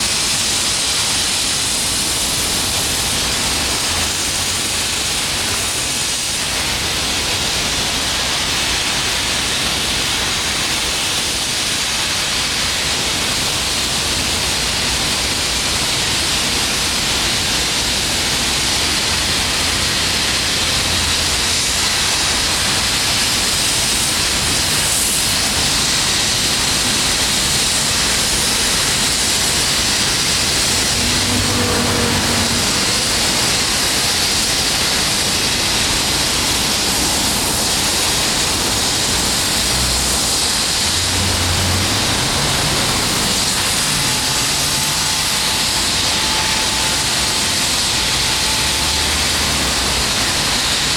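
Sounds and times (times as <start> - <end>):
steady rushing noise: 0.0 - 50.9.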